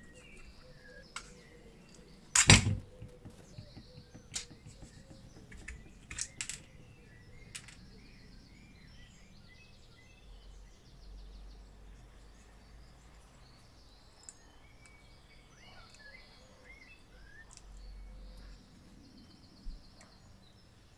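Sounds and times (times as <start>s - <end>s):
birds chirping and trilling: 0.0s - 20.9s.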